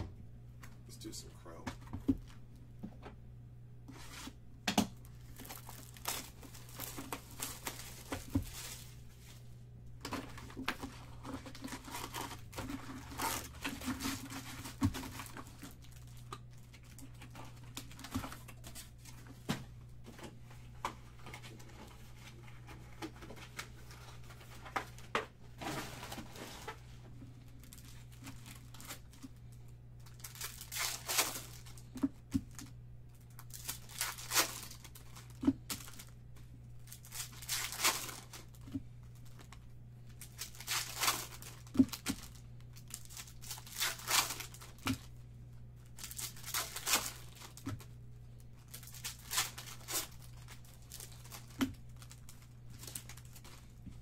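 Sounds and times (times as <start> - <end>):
foil packs crinkling and tearing: 5.0 - 9.4, 10.0 - 19.4, 21.2 - 45.2, 45.8 - 53.8.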